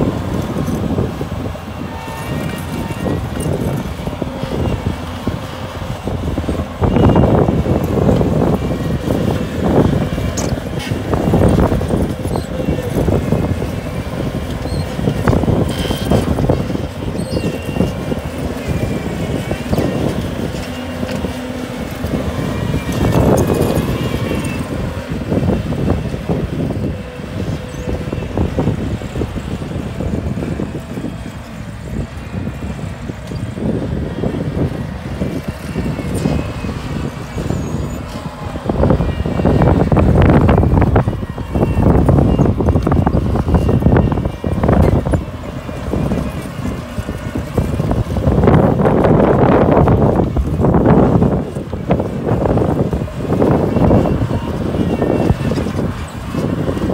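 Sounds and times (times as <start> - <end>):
diesel engine under load: 0.0 - 56.9
tracks rattling: 0.0 - 56.9.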